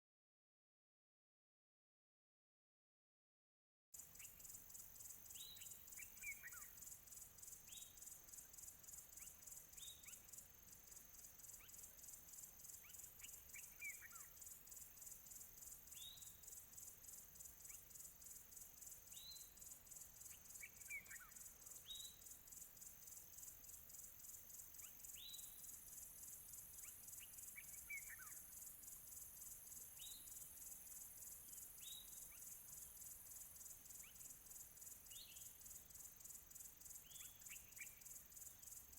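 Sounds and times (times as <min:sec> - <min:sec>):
insects chirping: 0:04.0 - 0:38.9.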